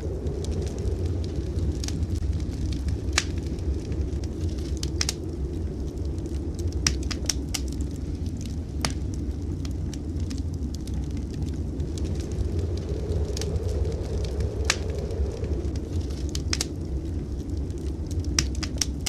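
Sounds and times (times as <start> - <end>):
fire crackling and popping: 0.0 - 19.0
steady low rumble: 0.0 - 19.0.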